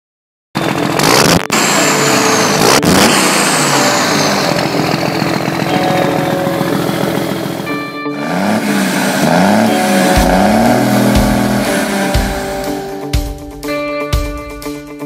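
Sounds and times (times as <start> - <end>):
engine revving: 0.6 - 13.2
sharp hits: 0.6 - 13.6.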